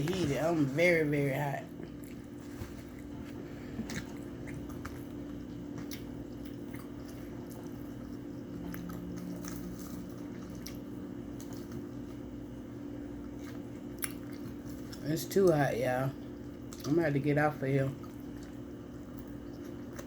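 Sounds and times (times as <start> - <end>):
low steady hum: 0.0 - 20.0
person chewing food: 1.6 - 15.6, 16.2 - 17.0, 18.0 - 20.0.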